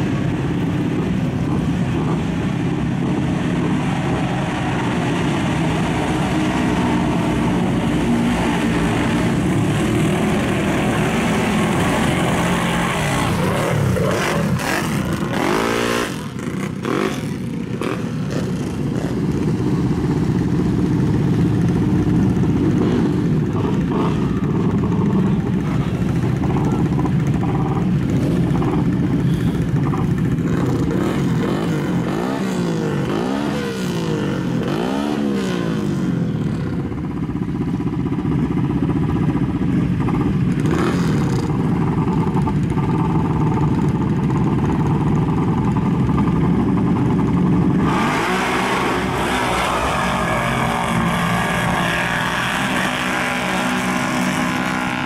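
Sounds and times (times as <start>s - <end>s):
atv churning through mud: 0.0s - 37.0s, 37.6s - 55.0s
atv engines revving: 0.0s - 55.0s.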